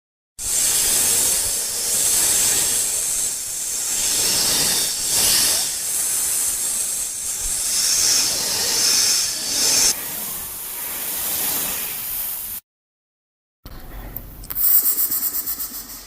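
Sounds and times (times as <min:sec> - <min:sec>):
snake hissing: 0:00.4 - 0:12.6, 0:14.6 - 0:16.0.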